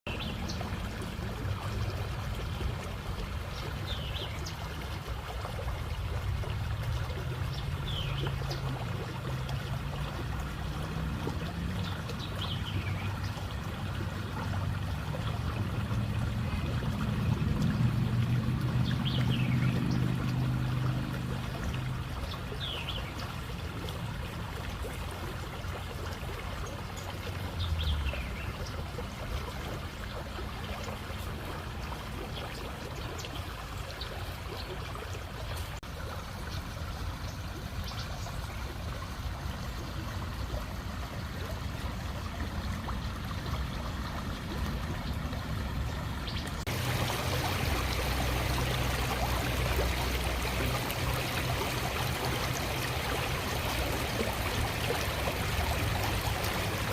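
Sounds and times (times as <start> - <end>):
creek water flowing over rocks: 0.0 - 56.9.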